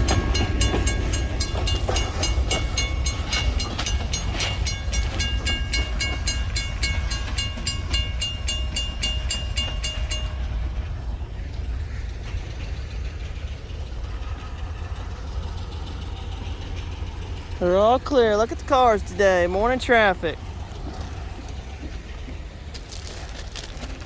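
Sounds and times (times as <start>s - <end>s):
railroad crossing bell ringing: 0.0s - 24.0s.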